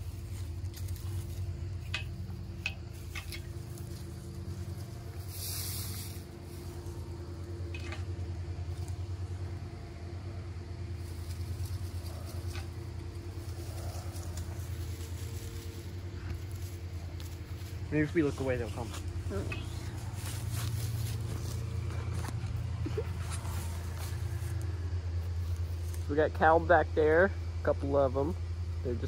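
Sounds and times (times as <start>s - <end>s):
leafy branches rustling: 0.0s - 26.2s
small engine idling: 0.0s - 29.0s.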